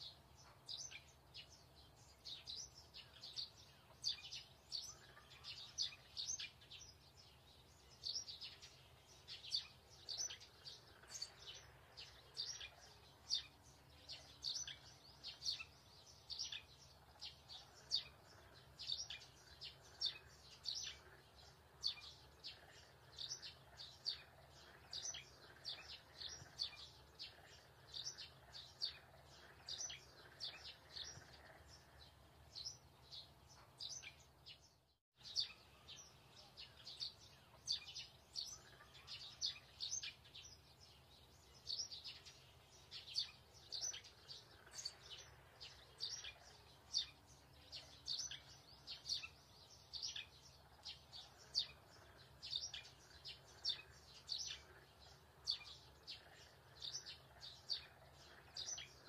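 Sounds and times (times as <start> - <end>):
small bird chirping: 0.0 - 59.0.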